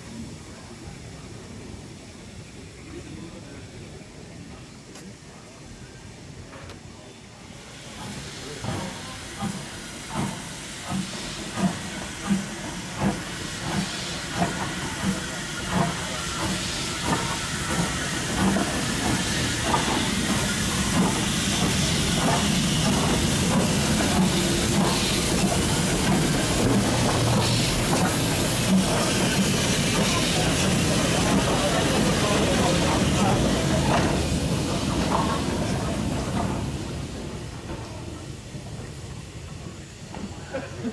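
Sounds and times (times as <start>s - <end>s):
steady steam hiss: 0.0s - 40.9s
steam locomotive exhaust chuffs: 7.4s - 40.9s.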